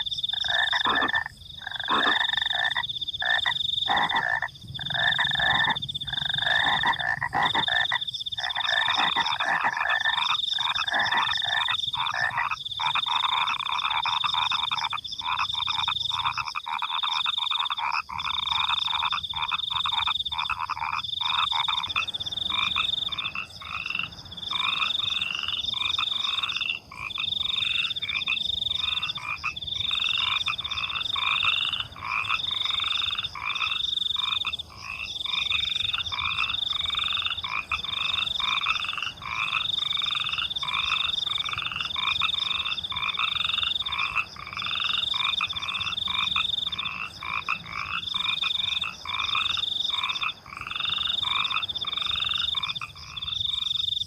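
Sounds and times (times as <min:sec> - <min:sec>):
crickets trilling: 0:00.0 - 0:54.0
frogs croaking: 0:00.0 - 0:54.0.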